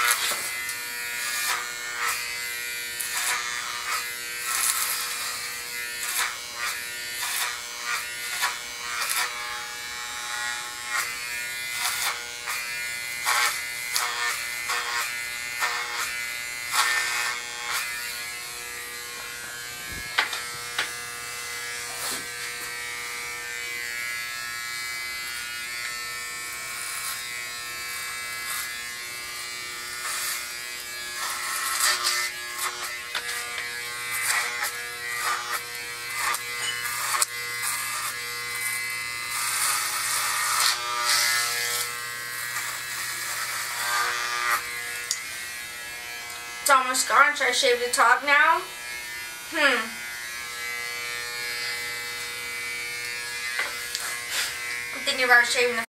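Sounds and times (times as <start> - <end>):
electric hair clippers buzzing: 0.0 - 55.9.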